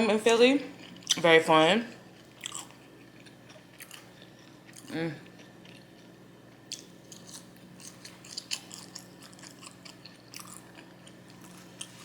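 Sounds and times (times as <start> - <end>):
low steady hum: 0.0 - 12.0
person chewing and crunching: 0.8 - 1.2, 1.9 - 12.0.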